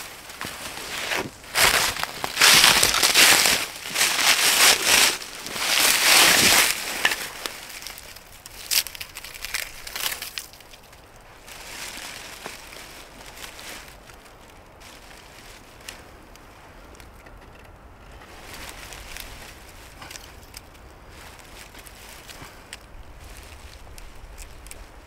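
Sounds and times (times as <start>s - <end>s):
dry debris crunching: 0.0s - 25.0s.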